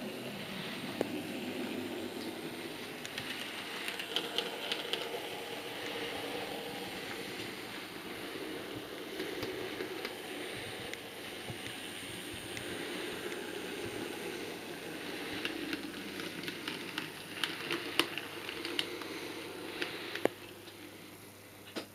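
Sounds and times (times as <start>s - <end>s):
wheels clicking over rail joints: 0.0s - 21.0s
model train motor whirring: 0.0s - 21.3s.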